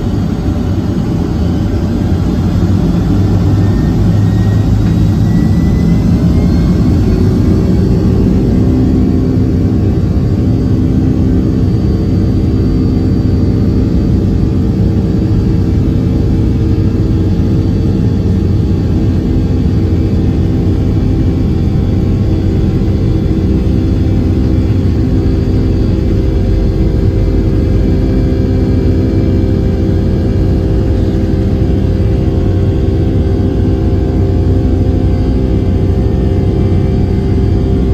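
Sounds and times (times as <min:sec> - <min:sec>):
jet engines droning in cabin: 0:00.0 - 0:37.9.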